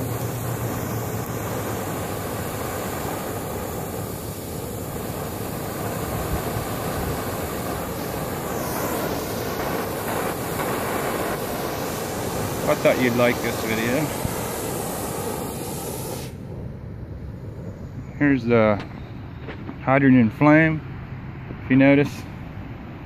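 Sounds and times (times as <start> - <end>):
cutting torch flame hissing: 0.0 - 19.9.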